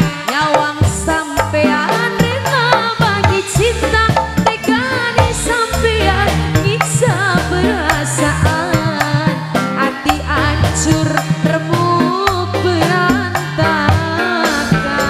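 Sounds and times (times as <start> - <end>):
amplified band: 0.0 - 15.0
steady drum beat: 0.0 - 15.0
stepping bass line: 0.0 - 15.0
woman singing into microphone: 0.0 - 15.0.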